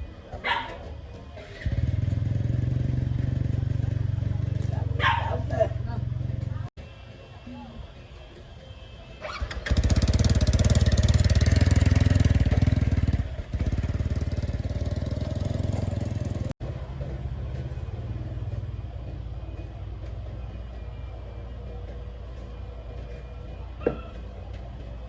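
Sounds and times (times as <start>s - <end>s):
two-stroke cultivator engine running: 1.3s - 6.7s, 9.2s - 25.0s.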